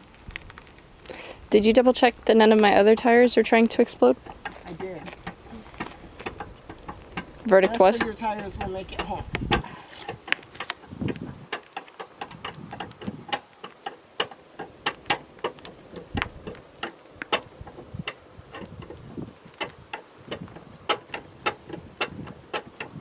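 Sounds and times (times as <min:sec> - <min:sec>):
hand tools clicking and tapping: 0:03.6 - 0:23.0.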